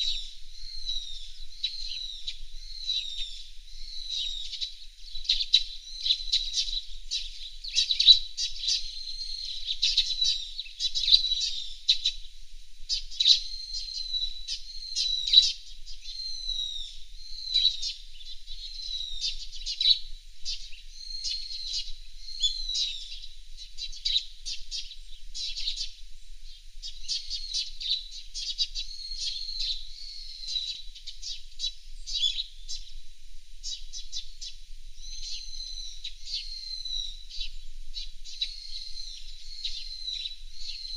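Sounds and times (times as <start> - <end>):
fairywrens singing and chirping: 0.0 - 40.9.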